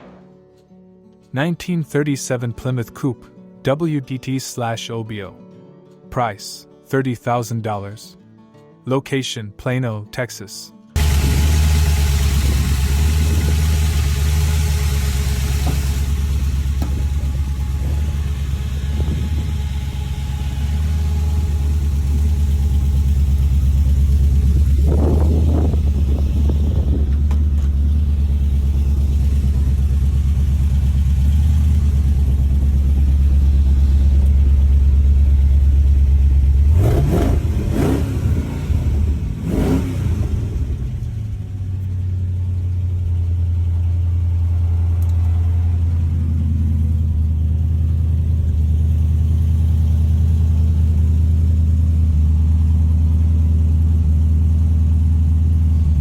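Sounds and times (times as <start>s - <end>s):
car engine idling and revving: 11.0s - 56.0s.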